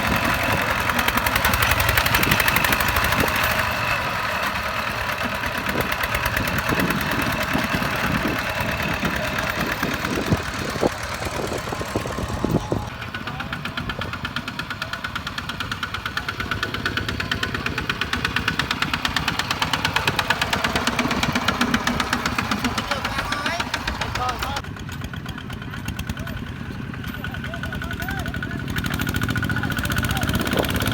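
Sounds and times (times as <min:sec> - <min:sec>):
tractor diesel engine chugging: 0:00.0 - 0:30.9.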